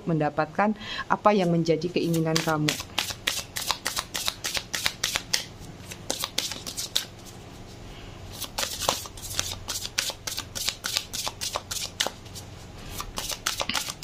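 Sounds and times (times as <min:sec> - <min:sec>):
cards being shuffled: 0:02.0 - 0:14.0.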